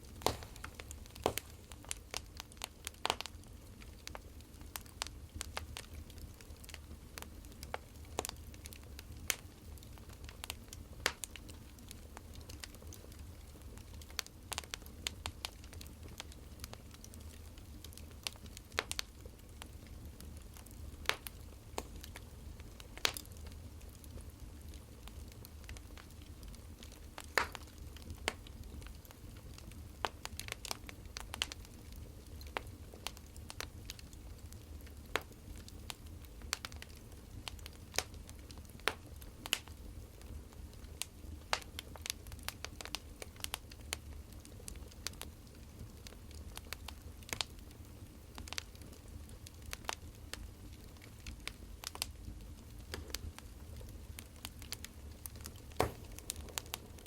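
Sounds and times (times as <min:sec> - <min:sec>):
firewood burning and crackling: 0:00.0 - 0:57.0.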